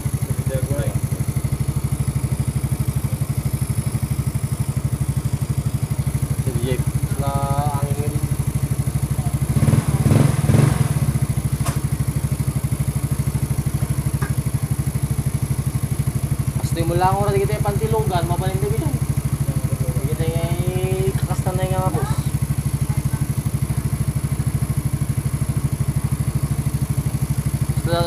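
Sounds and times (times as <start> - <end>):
scooter engine idling: 0.0 - 28.0.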